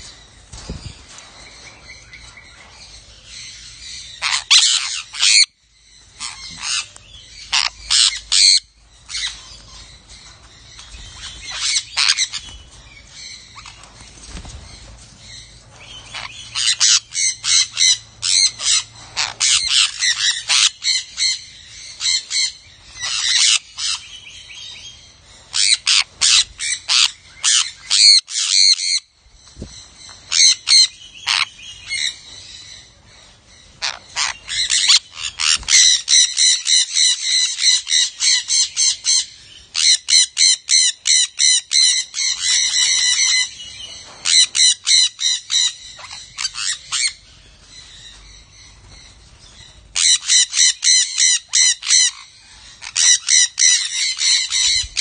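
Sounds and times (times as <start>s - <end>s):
parrots calling: 0.0s - 29.1s, 29.8s - 55.0s.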